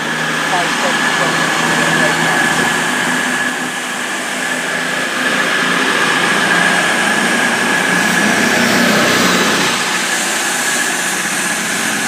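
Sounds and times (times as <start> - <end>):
train diesel engines whining: 0.0 - 12.0.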